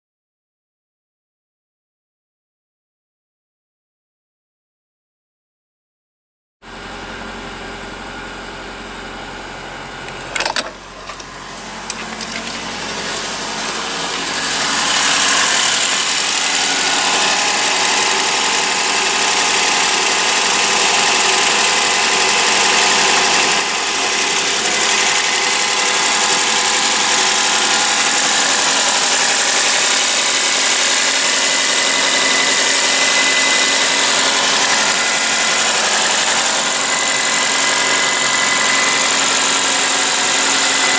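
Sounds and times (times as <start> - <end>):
car engine idling: 6.8 - 40.9.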